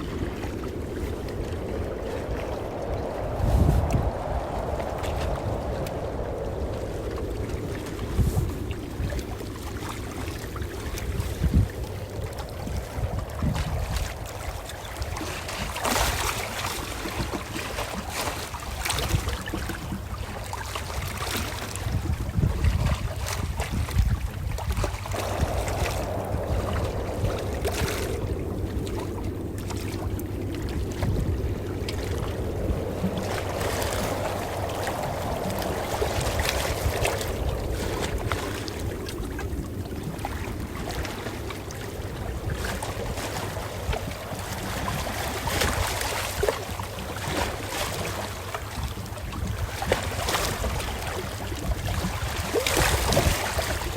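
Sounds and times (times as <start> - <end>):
low rumble: 0.0 - 52.3
ocean waves washing in: 0.0 - 53.9.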